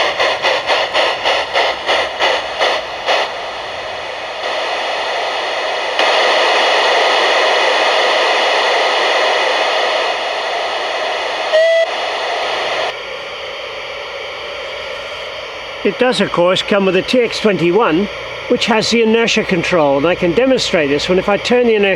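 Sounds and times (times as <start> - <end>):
steam hiss: 0.0 - 21.9.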